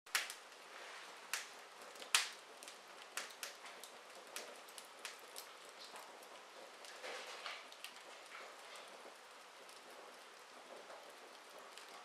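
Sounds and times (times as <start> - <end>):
soft steady fire hiss: 0.1 - 12.0
wood fire crackling: 0.1 - 12.0.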